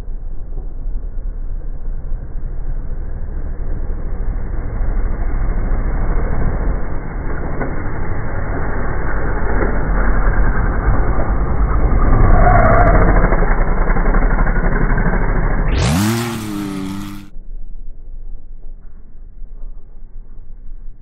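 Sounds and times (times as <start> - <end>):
buggy engine running hard: 0.0 - 17.4.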